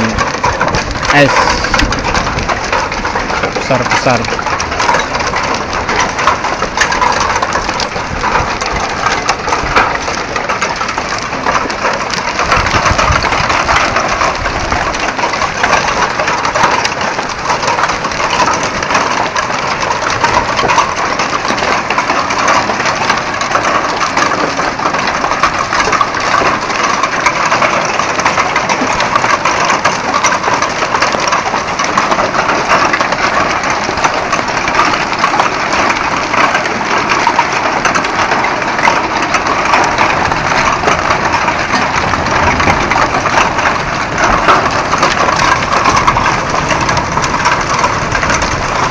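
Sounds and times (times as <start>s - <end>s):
heavy hail clattering: 0.0s - 48.9s.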